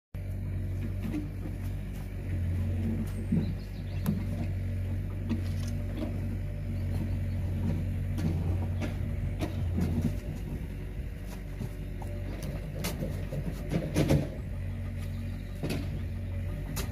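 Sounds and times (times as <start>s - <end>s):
diesel digger engine idling: 0.2s - 16.9s.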